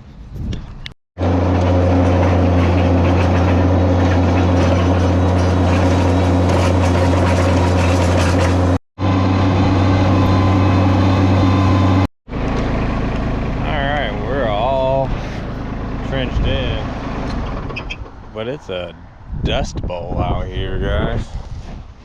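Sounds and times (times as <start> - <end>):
trencher engine droning: 1.2 - 19.3.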